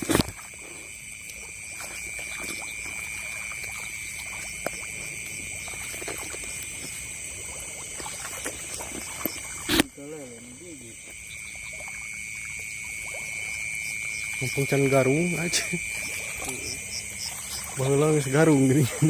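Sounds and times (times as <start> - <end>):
frogs and insects trilling: 0.0 - 19.0
small splashes in water: 0.0 - 19.0.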